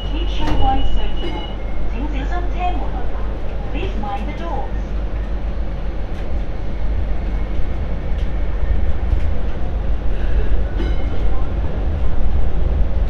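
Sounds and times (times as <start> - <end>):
light rail train rumbling: 0.0 - 13.0.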